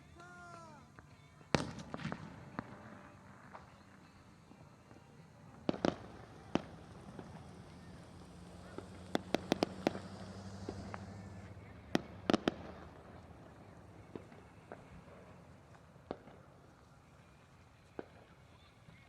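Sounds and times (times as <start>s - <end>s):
fireworks bangs: 0.0s - 18.7s.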